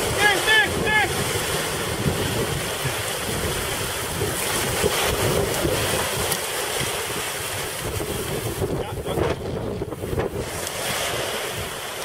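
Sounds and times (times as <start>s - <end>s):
surf breaking on beach: 0.0s - 12.0s
wind rumbling on microphone: 0.0s - 12.0s.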